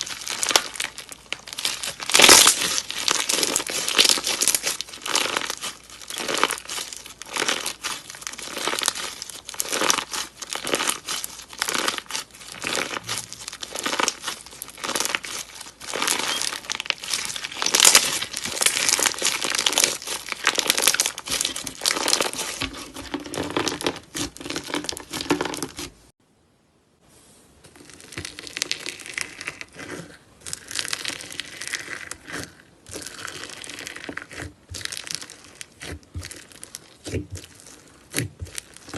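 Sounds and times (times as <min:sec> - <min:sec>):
slime crackling and popping: 0:00.0 - 0:26.0, 0:27.7 - 0:38.9.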